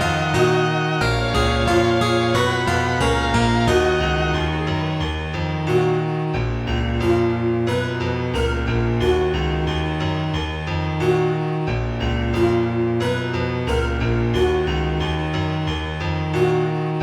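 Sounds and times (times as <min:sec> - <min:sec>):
instrumental music: 0:00.0 - 0:17.0.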